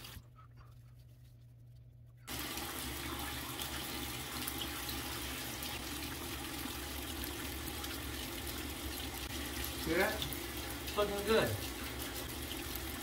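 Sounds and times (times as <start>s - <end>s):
water running into basin: 0.0s - 0.2s, 2.3s - 13.0s.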